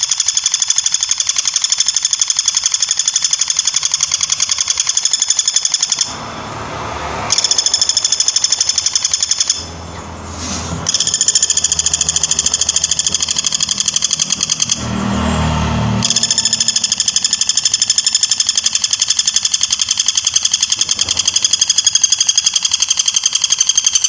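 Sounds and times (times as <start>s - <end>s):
woodpecker rattling call: 0.0s - 6.1s, 7.3s - 9.7s, 10.9s - 14.8s, 16.0s - 24.0s.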